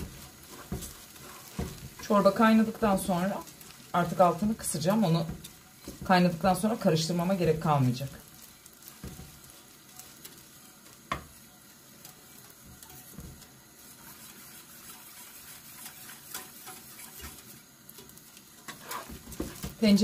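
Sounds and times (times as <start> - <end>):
wooden spoon stirring rice in pot: 0.0 - 20.0.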